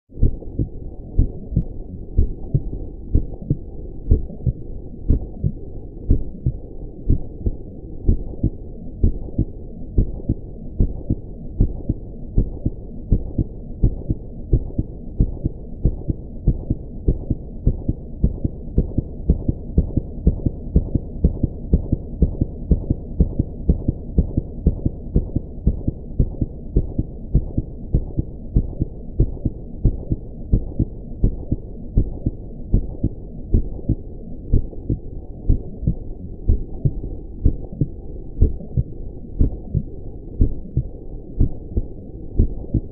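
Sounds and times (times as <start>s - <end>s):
heartbeat thumps: 0.1s - 42.9s.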